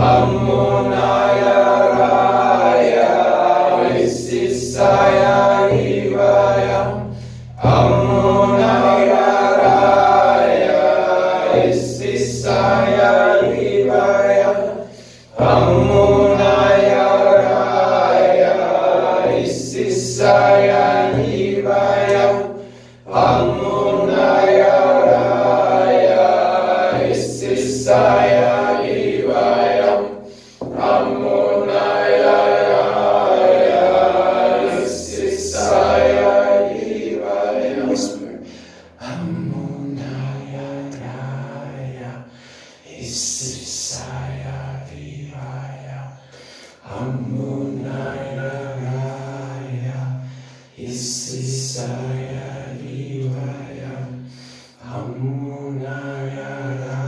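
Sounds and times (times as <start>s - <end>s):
voices chanting together: 0.0s - 57.0s.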